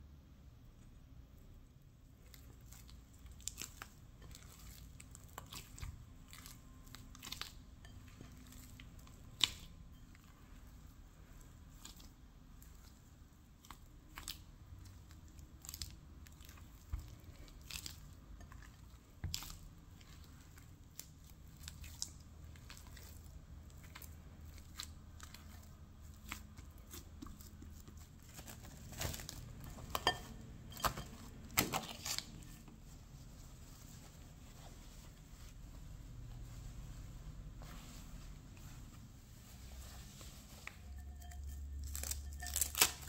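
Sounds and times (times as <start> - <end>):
hands squishing sticky dough: 0.8 - 43.0.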